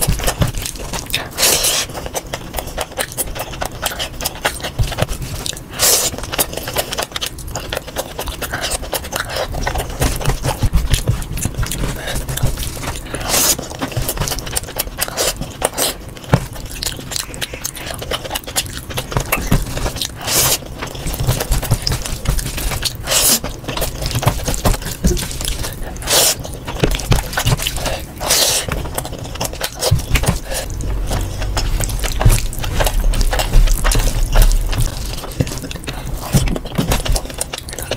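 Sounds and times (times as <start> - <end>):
chewing and mouth noises: 0.0 - 37.9.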